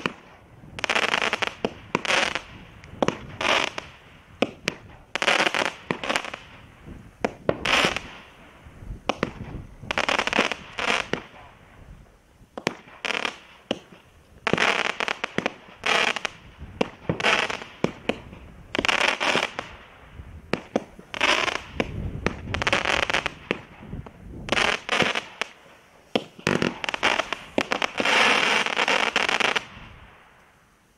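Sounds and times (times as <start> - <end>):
firework launch pops: 0.0 - 0.9, 1.6 - 6.2, 7.2 - 8.2, 9.0 - 11.5, 12.6 - 14.7, 15.3 - 19.8, 20.5 - 30.0
firework crackling: 0.0 - 30.9.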